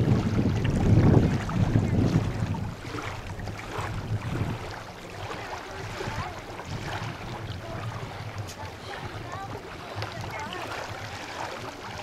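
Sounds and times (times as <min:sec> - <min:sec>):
small waves lapping: 0:00.0 - 0:12.0
wind rumbling on microphone: 0:00.0 - 0:12.0.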